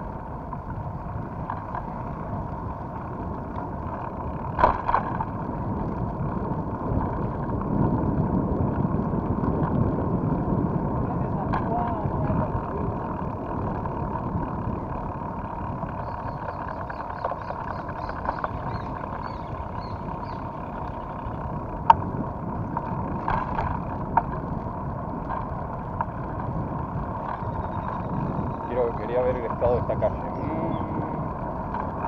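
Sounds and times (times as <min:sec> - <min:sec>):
faint steady whine: 0:00.0 - 0:32.0
wind on microphone: 0:00.0 - 0:32.0
bike knocking: 0:00.5 - 0:29.8.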